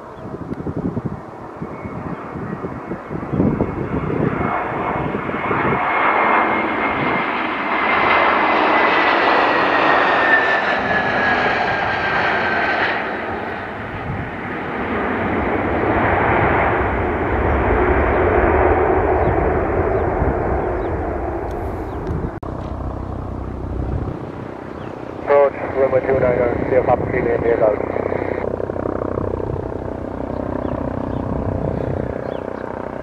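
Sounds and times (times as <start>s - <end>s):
airplane engines passing: 0.0s - 33.0s
high engine whine: 0.0s - 33.0s.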